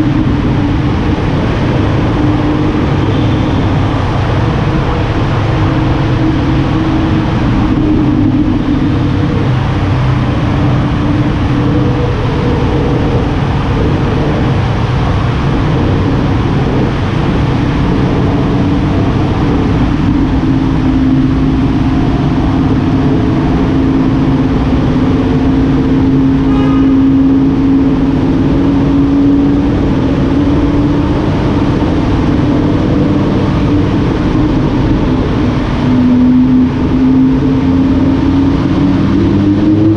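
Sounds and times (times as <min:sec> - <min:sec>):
car engine running while driving: 0:00.0 - 0:39.9.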